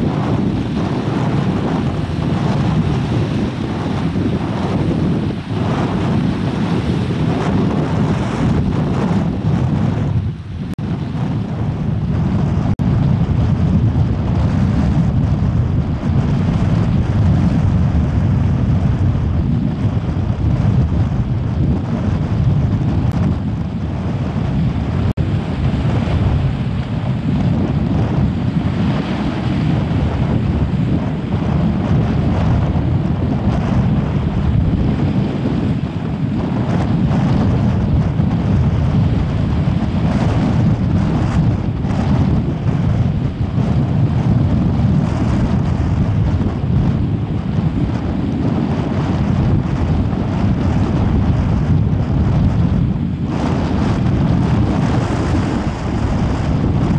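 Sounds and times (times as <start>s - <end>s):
gusty wind buffeting microphone: 0.0s - 56.9s.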